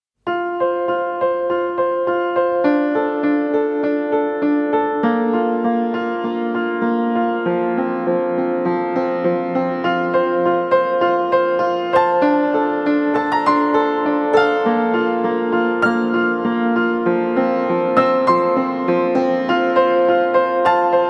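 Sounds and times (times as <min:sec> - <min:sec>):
gentle piano piece: 0:00.2 - 0:21.0.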